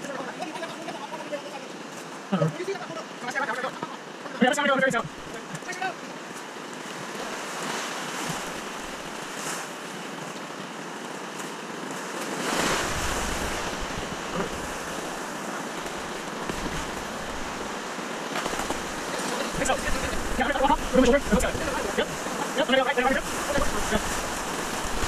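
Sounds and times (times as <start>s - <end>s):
whitewater rushing and splashing: 0.0s - 25.0s.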